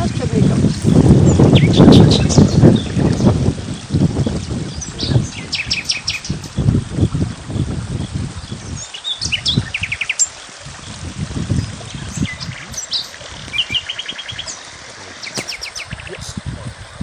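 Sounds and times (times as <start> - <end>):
small birds chirping and trilling: 0.0 - 16.4.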